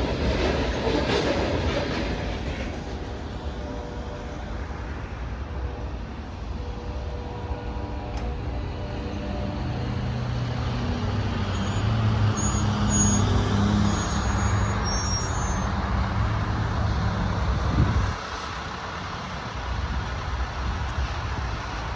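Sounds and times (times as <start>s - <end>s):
engine droning: 0.0s - 21.9s.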